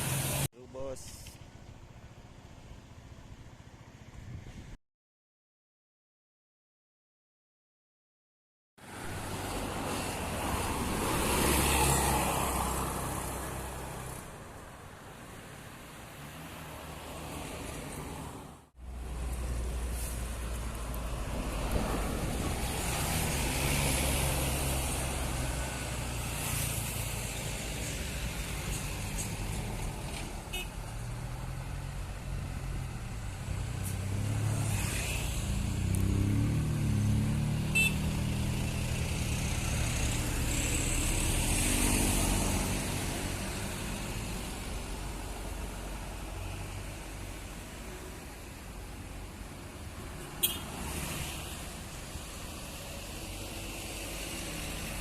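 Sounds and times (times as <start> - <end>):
diesel buses driving past: 8.8 - 55.0.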